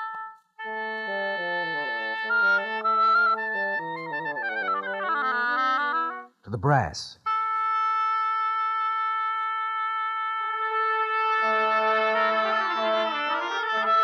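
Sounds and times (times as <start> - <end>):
brass holding long note: 0.0 - 6.3, 7.3 - 14.0.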